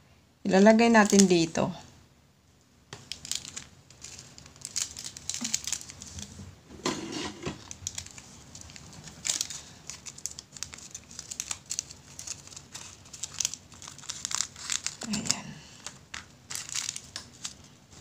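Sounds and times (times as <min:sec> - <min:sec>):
plastic packaging crinkling: 0:00.8 - 0:01.5, 0:03.0 - 0:06.4, 0:07.4 - 0:18.0.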